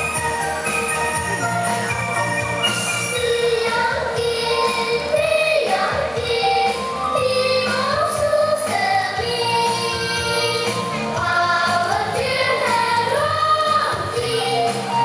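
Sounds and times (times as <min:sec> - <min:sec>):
pop song with high vocals: 0:02.6 - 0:15.0.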